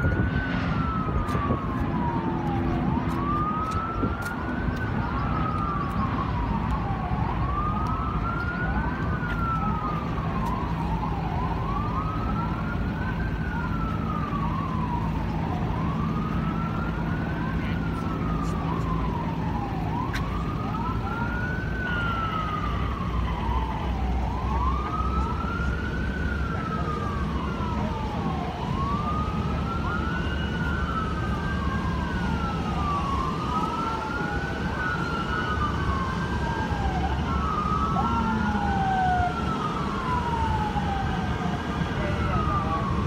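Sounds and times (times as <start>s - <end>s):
emergency sirens wailing: 0.0s - 43.0s.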